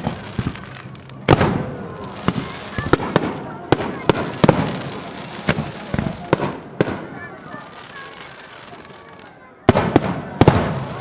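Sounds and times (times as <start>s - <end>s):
fireworks booming and cracking: 0.0s - 11.0s
fireworks crackling: 0.0s - 11.0s.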